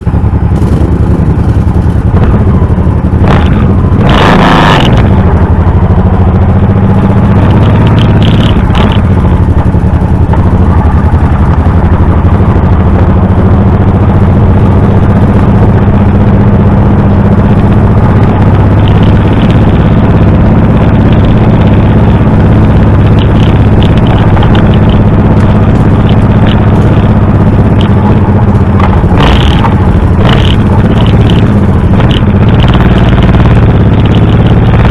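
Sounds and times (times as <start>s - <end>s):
loud burst of noise: 0.0s - 34.9s
motorcycle engine running: 0.0s - 34.9s.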